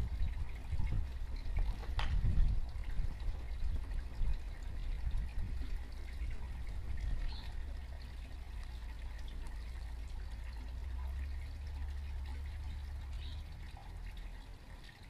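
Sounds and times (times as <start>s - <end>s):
low wind rumble on microphone: 0.0s - 14.1s.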